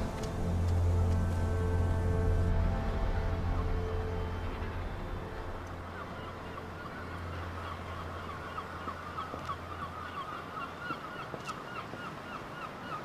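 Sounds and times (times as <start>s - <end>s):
low steady hum: 0.0s - 11.2s
flock of birds calling: 0.0s - 13.0s.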